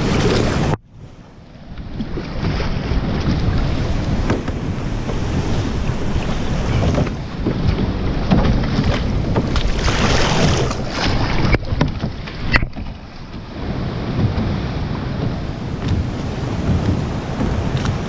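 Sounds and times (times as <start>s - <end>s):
sea water splashing: 0.0s - 18.0s
wind buffeting microphone: 0.0s - 18.0s.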